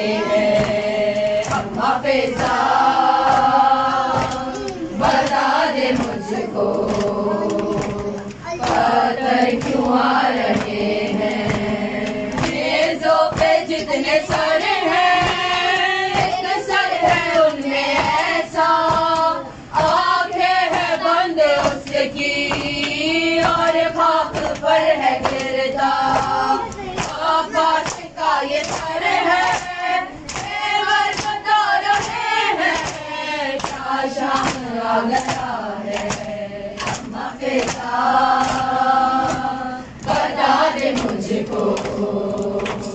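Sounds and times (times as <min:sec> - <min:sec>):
women chanting a lament: 0:00.0 - 0:42.9.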